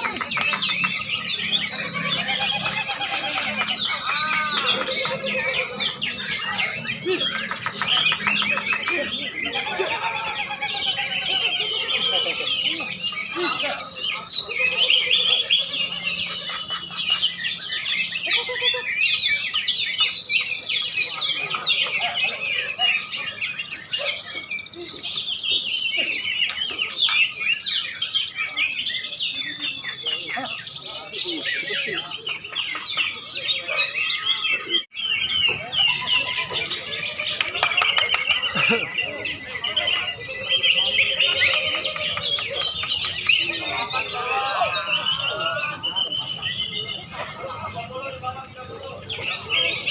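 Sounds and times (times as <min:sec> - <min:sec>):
many songbirds singing: 0:00.0 - 0:49.9.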